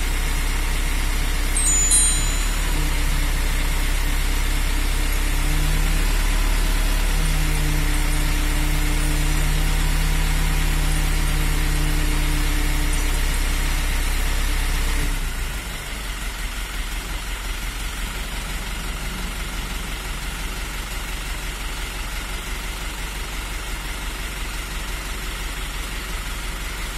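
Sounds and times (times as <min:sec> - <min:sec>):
engine idling with low throb: 0:00.0 - 0:26.9
truck engine hum: 0:00.0 - 0:26.9.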